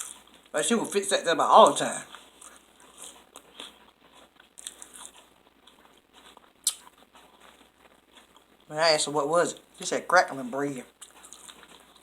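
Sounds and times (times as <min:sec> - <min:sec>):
person chewing and crunching food: 0:00.0 - 0:12.0.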